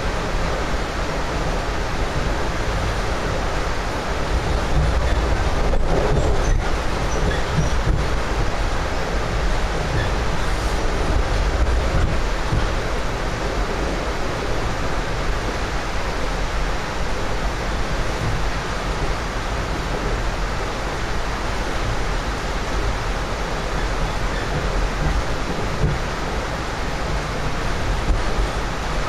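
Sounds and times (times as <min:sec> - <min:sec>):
rush of moving train: 0:00.0 - 0:29.0
train wheels on rails: 0:00.0 - 0:29.0.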